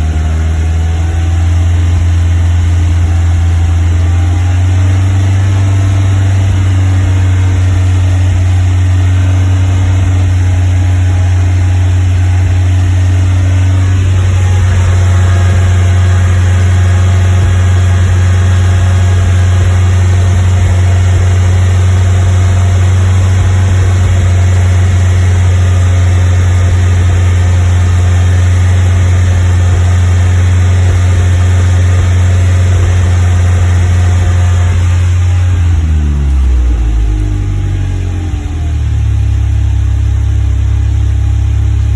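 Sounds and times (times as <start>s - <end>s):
car engine misfiring: 0.0s - 41.9s.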